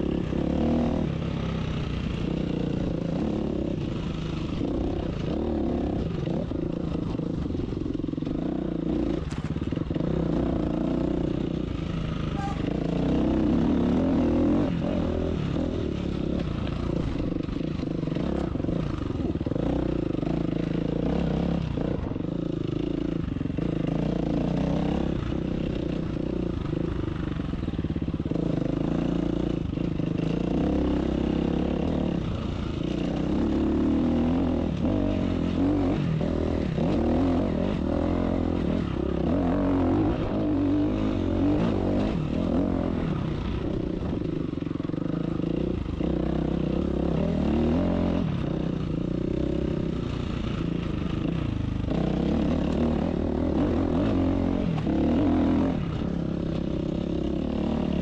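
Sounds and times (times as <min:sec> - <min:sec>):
dirt bike engine: 0:00.0 - 0:58.0.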